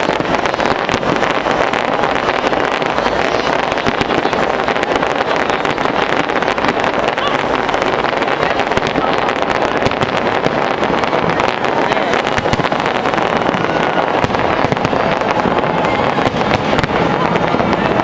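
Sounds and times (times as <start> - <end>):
fireworks exploding: 0.0 - 18.0
voices of a large crowd: 0.0 - 18.0.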